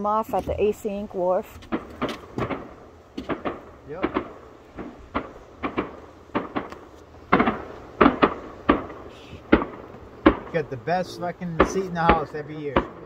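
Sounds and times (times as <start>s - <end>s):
distant fireworks bangs: 0.0s - 13.0s.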